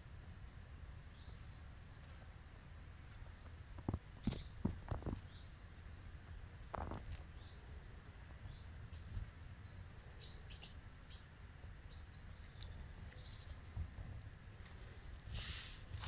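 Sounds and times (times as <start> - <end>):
small birds chirping: 0.0 - 15.8
low steady rumble: 0.0 - 16.0.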